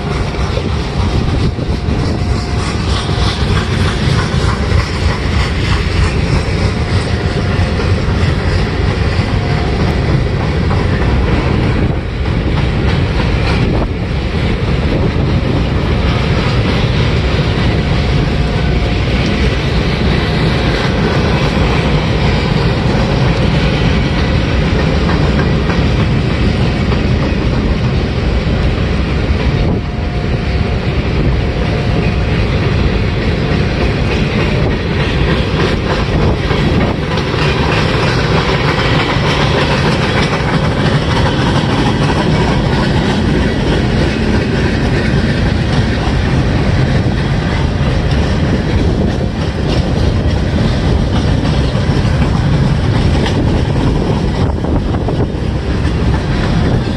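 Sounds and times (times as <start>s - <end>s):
steel wheels rumbling on rail: 0.0s - 56.9s
wheels clacking over rail joints: 0.0s - 56.9s.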